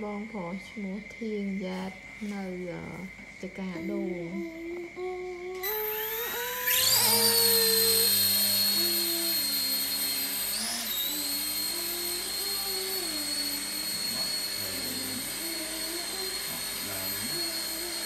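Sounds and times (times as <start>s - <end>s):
toy helicopter motors whining: 2.3s - 18.0s.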